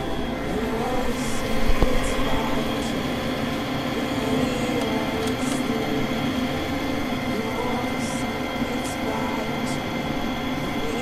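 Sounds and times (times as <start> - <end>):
furnace fan motor humming: 0.0 - 11.0.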